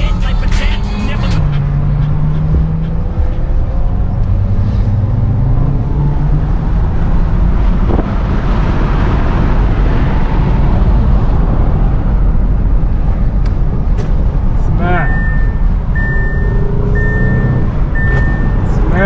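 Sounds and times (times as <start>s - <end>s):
low car engine hum: 0.0s - 19.0s
wind and tyre road noise: 1.2s - 19.0s.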